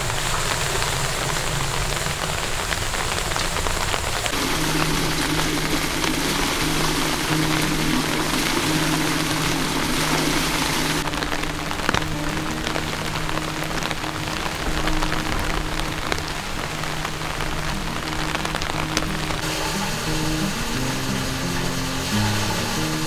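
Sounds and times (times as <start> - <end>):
heavy rain falling: 0.0 - 23.0
low steady hum: 4.3 - 23.0.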